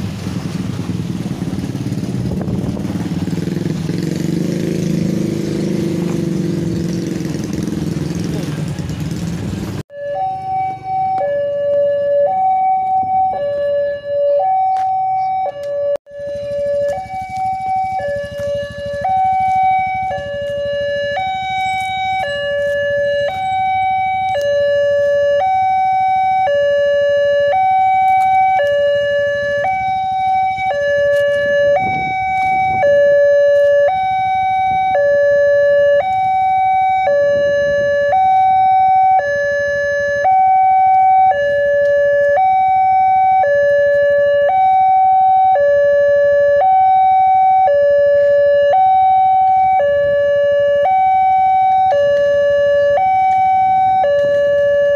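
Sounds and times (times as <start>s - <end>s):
level crossing two-tone alarm: 9.9s - 54.9s.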